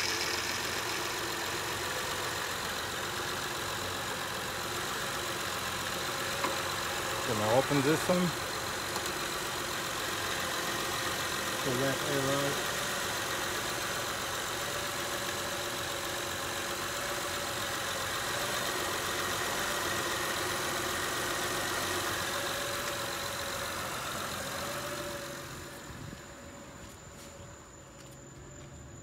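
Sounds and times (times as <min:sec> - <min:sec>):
power steering pump running: 0:00.0 - 0:26.8
car engine idling: 0:00.0 - 0:28.7.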